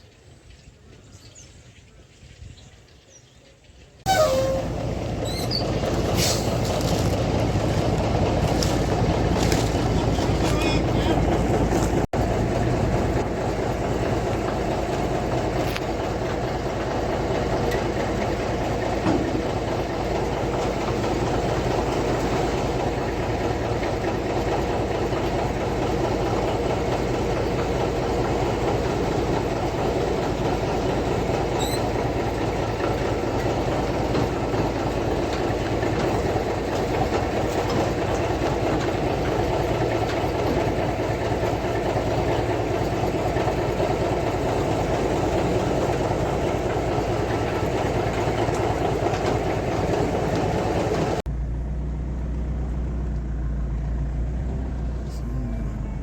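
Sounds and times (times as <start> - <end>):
engine running steadily: 4.1 - 56.0.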